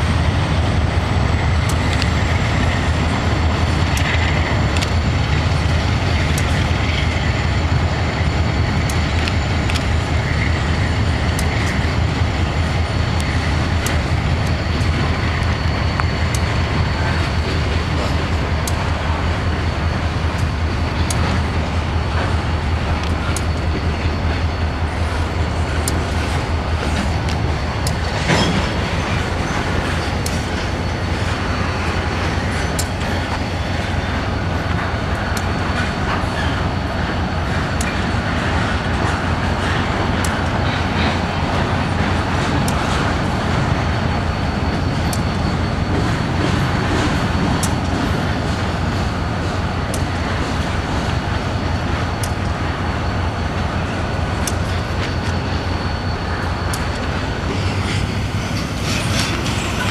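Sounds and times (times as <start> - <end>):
freight train rolling past: 0.0 - 59.9
wheels clicking on rail: 0.0 - 59.9.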